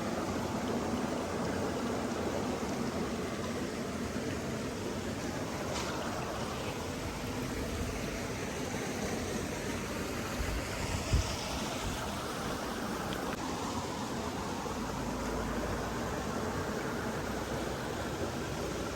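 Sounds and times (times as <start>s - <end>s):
flowing water rushing: 0.0s - 18.9s.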